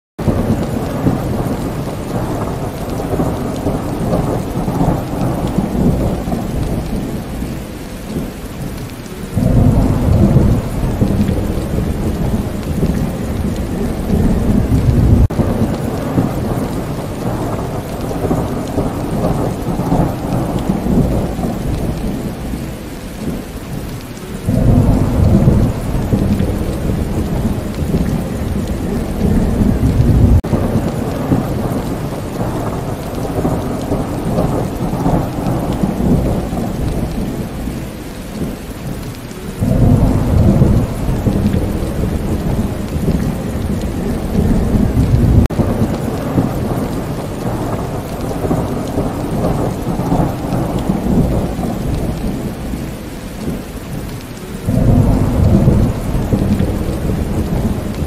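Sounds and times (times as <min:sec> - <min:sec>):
falling rain water: 0:00.2 - 0:58.0
rumbling thunder: 0:00.2 - 0:58.0.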